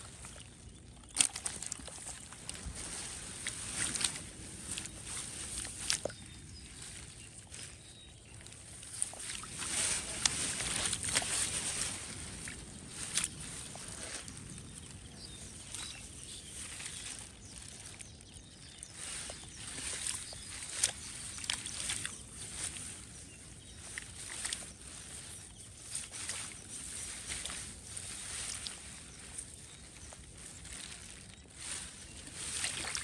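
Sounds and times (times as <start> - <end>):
light splashes in shallow water: 0.0 - 33.0.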